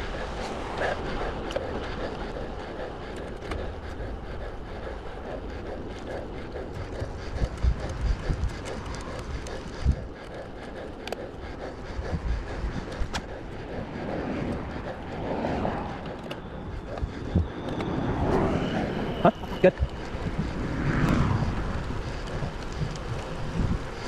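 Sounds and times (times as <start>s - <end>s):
bike rattling: 0.0s - 15.2s, 19.5s - 24.0s
bike tyre road noise: 0.0s - 24.0s
wind buffeting microphone: 0.0s - 24.0s.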